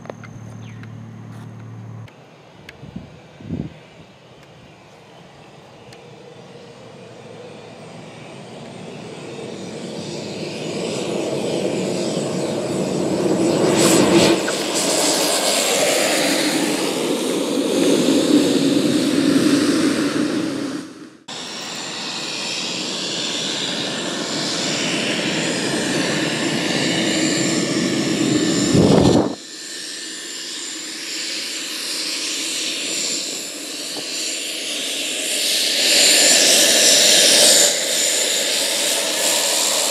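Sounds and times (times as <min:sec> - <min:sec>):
light airplane engine: 0:00.0 - 0:39.9
turboprop engine on runway: 0:00.0 - 0:39.9.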